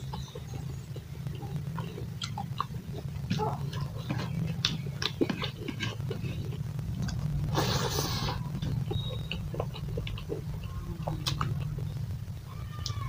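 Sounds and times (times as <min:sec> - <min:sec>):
person chewing with lip-smacks: 0:00.0 - 0:12.0
steady low hum: 0:00.0 - 0:13.0.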